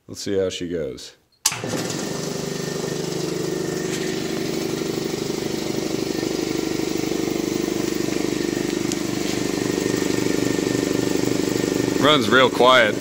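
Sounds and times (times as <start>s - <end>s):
air compressor running: 1.5s - 13.0s.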